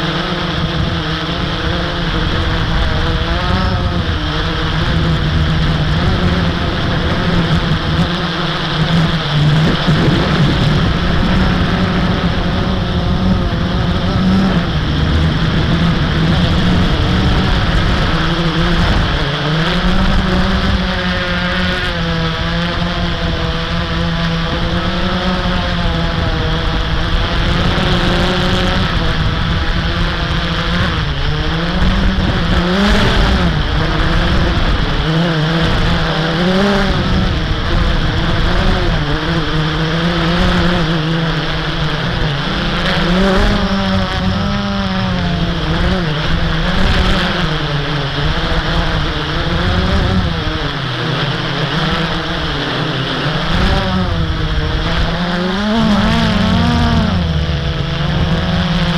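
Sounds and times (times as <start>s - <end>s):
drone propellers buzzing: 0.0s - 58.9s.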